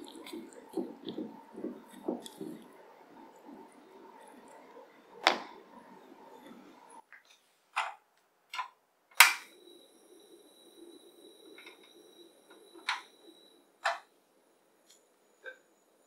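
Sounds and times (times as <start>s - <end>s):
gas flame hissing: 0.0s - 7.0s, 9.2s - 15.6s.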